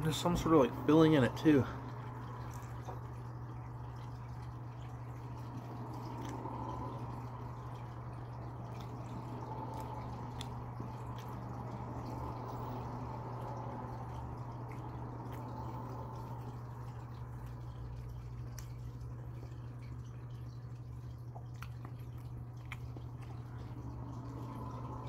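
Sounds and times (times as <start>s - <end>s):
low hum: 0.0s - 25.0s
person chewing food: 2.0s - 25.0s.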